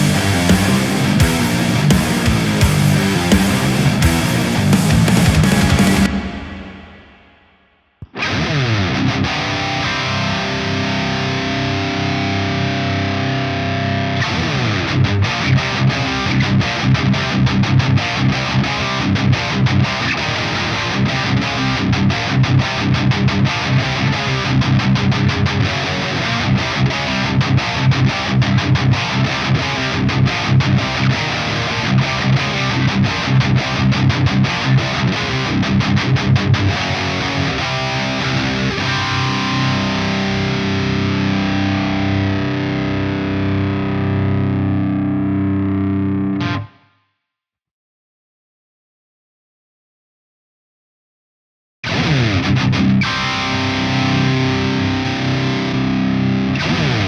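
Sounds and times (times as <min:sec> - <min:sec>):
distorted electric guitar riffs: 0:00.0 - 0:07.4, 0:08.0 - 0:46.8, 0:51.8 - 0:57.0.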